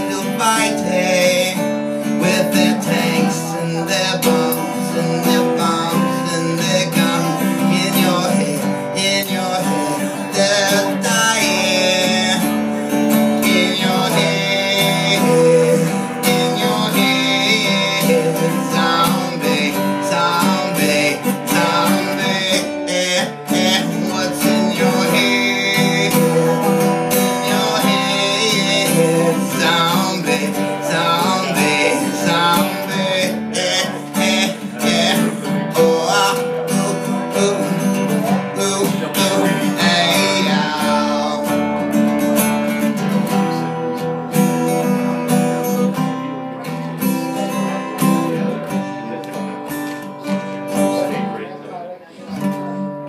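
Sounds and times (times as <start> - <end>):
man singing: 0.0 - 53.0
strummed acoustic guitar: 0.0 - 53.0.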